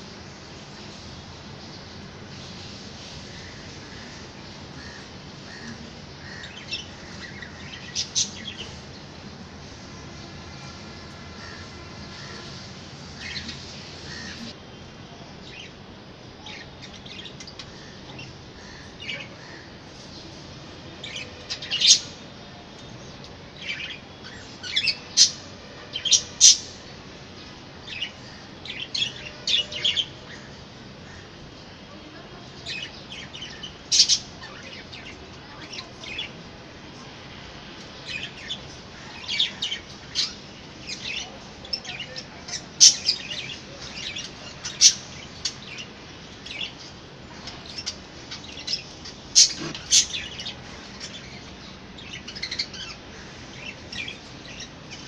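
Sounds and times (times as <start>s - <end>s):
caged birds chirping: 0.0s - 55.0s.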